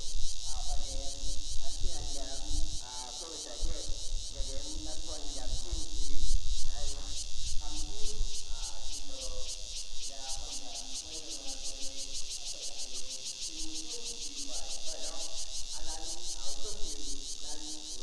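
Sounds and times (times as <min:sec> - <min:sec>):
insects chirring: 0:00.0 - 0:18.0
people talking indistinctly: 0:00.4 - 0:18.0.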